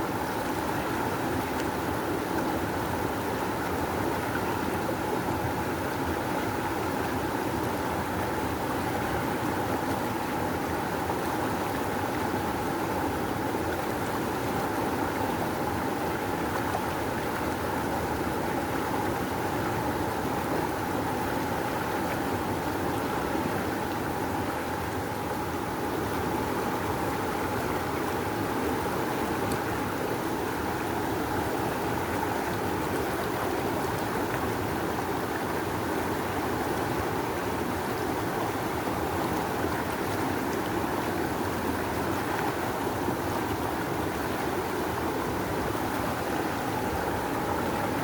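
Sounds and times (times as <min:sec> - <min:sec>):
rushing river water: 0:00.0 - 0:48.0.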